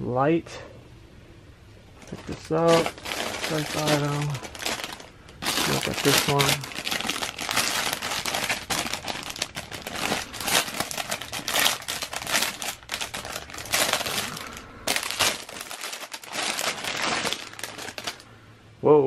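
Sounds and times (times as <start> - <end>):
plastic bag crinkling: 2.0 - 18.3.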